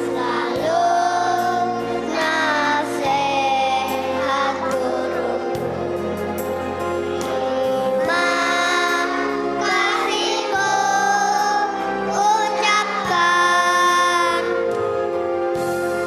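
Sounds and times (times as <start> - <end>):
children's choir singing: 0.0 - 15.1
instrumental accompaniment: 0.0 - 16.0.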